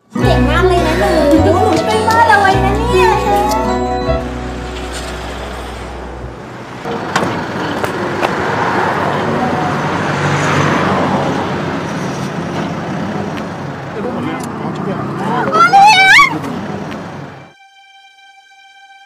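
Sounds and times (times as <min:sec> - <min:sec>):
vehicle passing by: 0:00.9 - 0:17.5.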